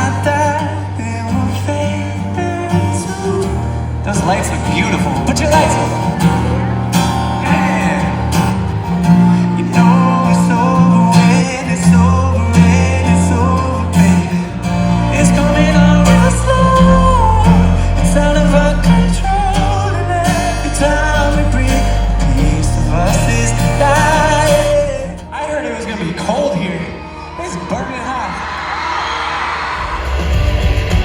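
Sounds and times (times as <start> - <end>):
deep bass line: 0.0 - 25.4
man singing: 0.0 - 26.9
guitar: 0.0 - 31.0.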